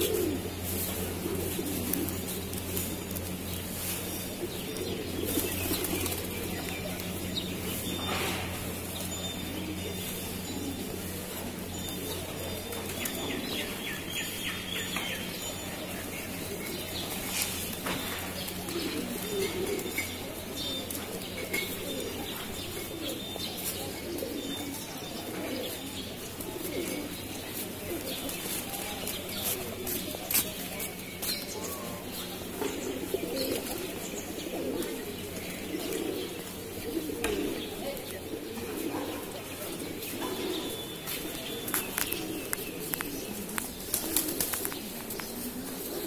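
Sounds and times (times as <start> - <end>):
pigeons cooing: 0.0 - 46.0
steady low hum: 0.0 - 46.0.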